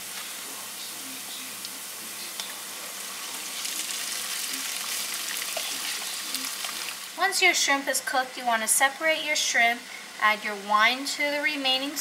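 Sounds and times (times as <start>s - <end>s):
shrimp sizzling in a frying pan: 0.0s - 12.0s.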